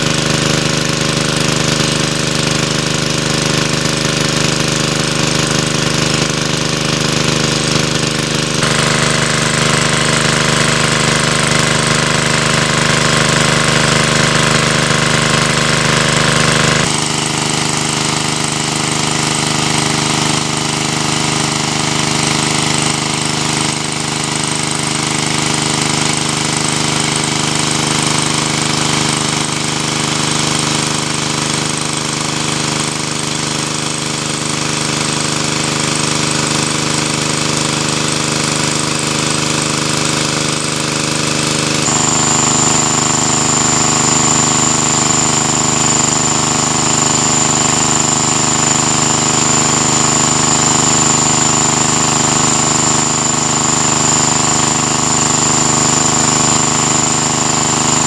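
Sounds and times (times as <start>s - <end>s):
small petrol engine running: 0.0s - 58.0s
water gushing from hose: 0.0s - 58.0s.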